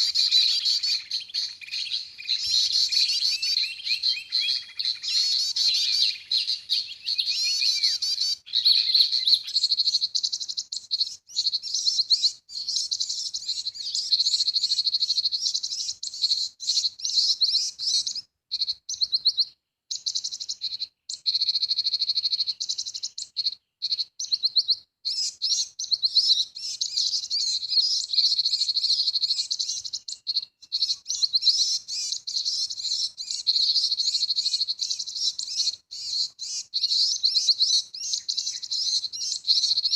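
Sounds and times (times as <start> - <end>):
recorded bird chirping and trills: 0.0 - 39.9.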